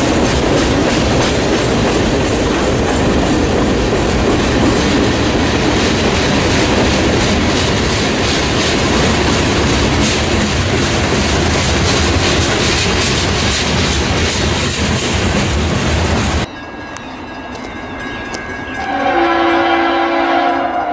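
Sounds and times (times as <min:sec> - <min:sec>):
freight train cars rolling past: 0:00.0 - 0:20.9.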